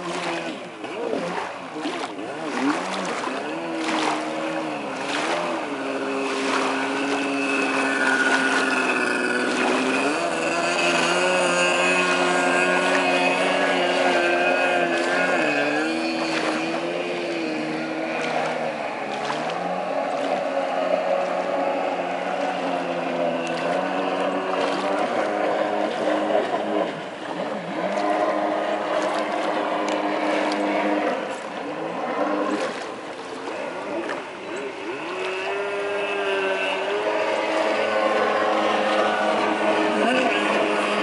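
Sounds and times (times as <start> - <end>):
rushing water: 0.0 - 41.0
watercraft engine running at speed: 0.0 - 41.0.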